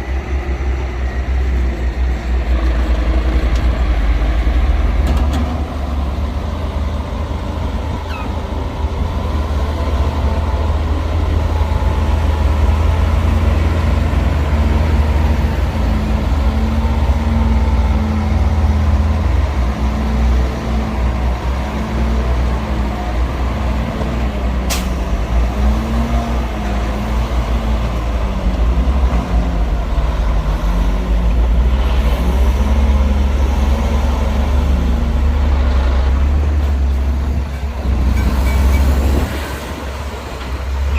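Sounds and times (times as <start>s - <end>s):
diesel engine rumble: 0.0s - 40.9s.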